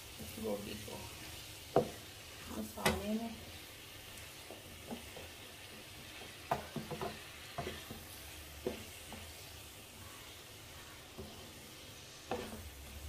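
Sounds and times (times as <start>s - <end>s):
food sizzling in frying pan: 0.0s - 13.0s
spatula scraping pan: 0.8s - 13.0s.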